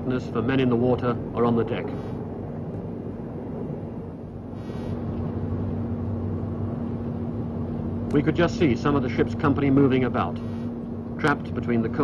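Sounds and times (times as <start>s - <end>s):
faint steady hum: 0.0s - 12.0s
low outdoor rumble: 0.0s - 12.0s.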